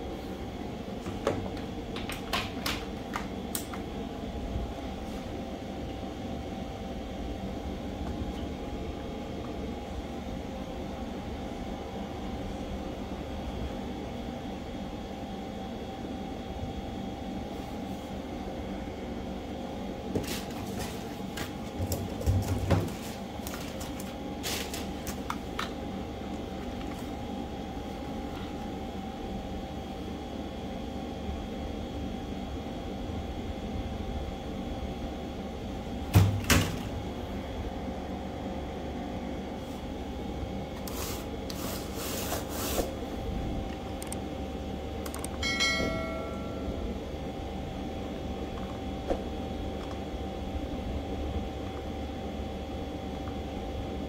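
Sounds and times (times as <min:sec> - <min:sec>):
steady background hum: 0:00.0 - 0:54.0.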